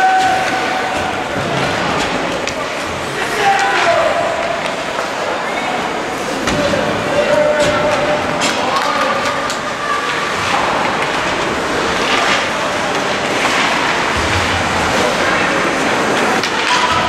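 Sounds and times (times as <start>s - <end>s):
crowd voices echoing in hall: 0.0s - 17.0s.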